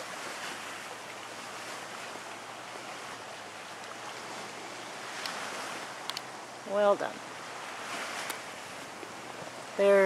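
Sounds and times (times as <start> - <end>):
lake water washing: 0.0 - 10.0
wind: 0.0 - 10.0.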